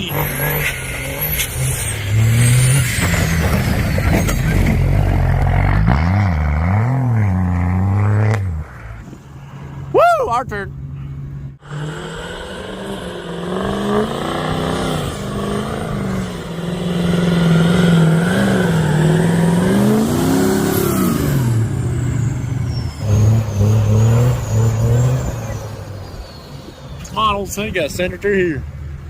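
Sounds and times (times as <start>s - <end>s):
diesel truck engine revving: 0.0s - 9.1s, 11.4s - 27.9s.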